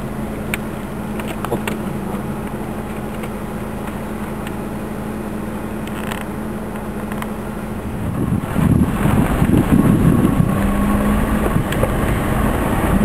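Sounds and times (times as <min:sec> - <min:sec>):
car engine humming: 0:00.0 - 0:13.0
road noise on gravel: 0:00.0 - 0:13.0.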